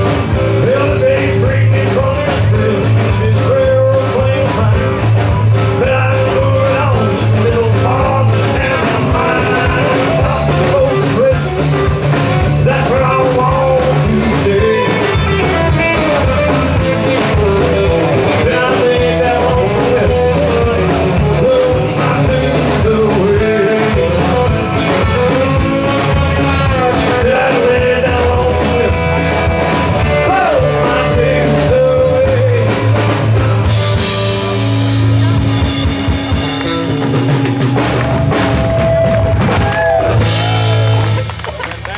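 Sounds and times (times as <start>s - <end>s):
man singing: 0.0s - 36.8s
drum kit beat: 0.0s - 41.9s
live rock band playing: 0.0s - 41.9s.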